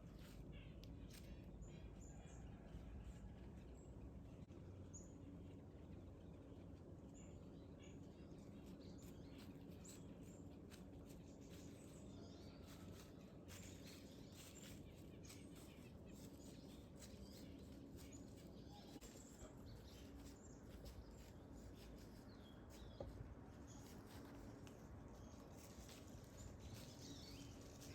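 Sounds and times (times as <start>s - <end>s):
low steady background hum: 0.0s - 27.9s.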